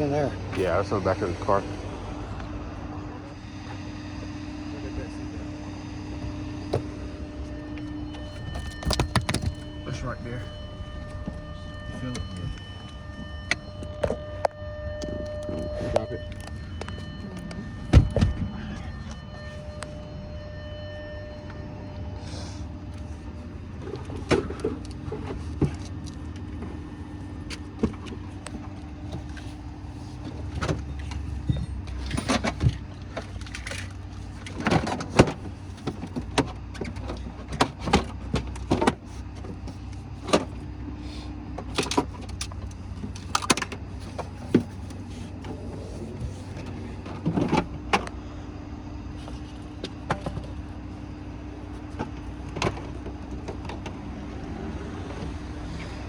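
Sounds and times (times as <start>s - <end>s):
tow truck engine running: 0.0s - 56.0s.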